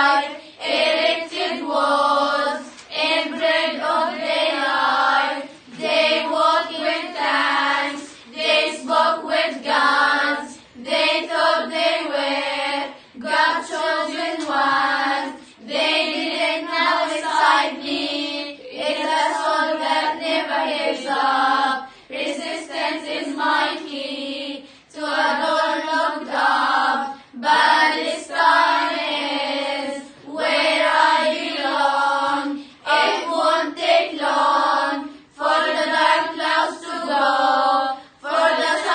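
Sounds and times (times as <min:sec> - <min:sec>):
girls singing in unison: 0:00.0 - 0:38.9.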